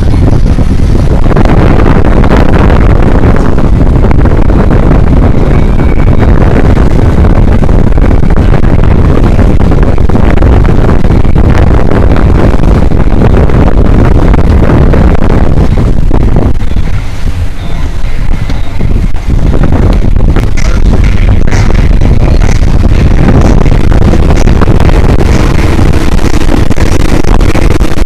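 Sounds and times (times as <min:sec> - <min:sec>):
boat engine drone: 0:00.0 - 0:28.0
wind buffeting microphone: 0:00.0 - 0:28.0.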